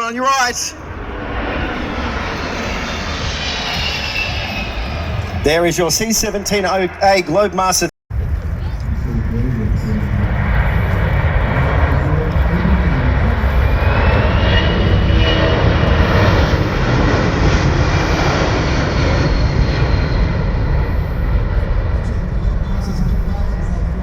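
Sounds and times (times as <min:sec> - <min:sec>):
high turbine whine: 0:00.0 - 0:24.0
jet engines roaring: 0:00.0 - 0:24.0.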